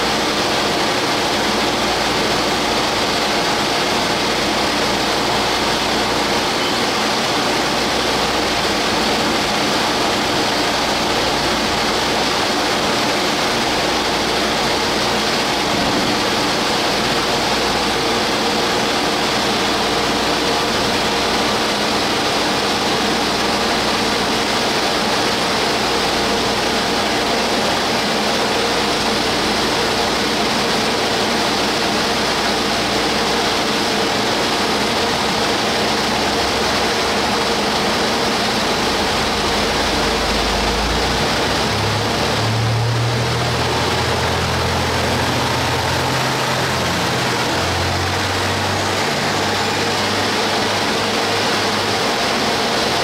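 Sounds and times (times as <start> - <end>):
electric train equipment whirring: 0.0 - 53.0.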